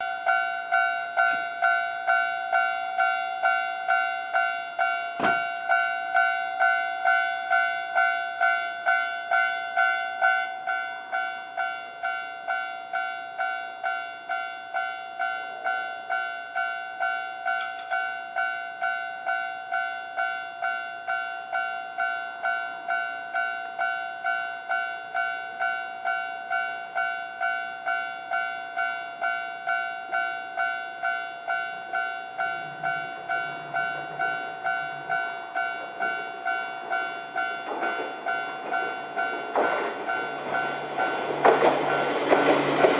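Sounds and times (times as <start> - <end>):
level crossing alarm ringing: 0.0 - 42.9.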